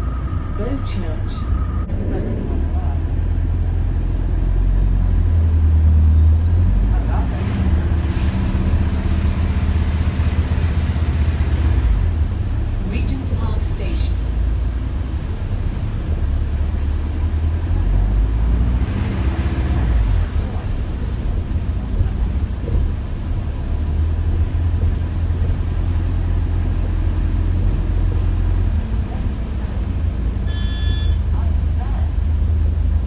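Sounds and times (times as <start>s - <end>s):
bus interior low rumble: 0.0s - 33.0s.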